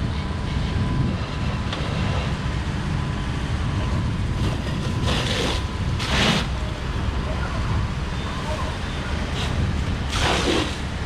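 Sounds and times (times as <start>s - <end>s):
engines rumbling: 0.0s - 11.0s.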